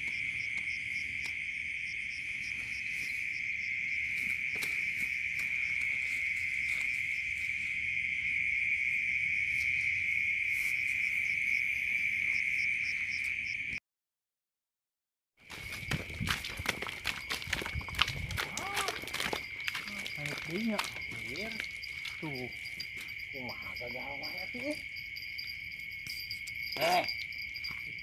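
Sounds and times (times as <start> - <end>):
cricket-like insect trill: 0.0 - 13.8, 15.4 - 28.0
faint pulsing insect call: 0.0 - 13.8, 15.4 - 28.0.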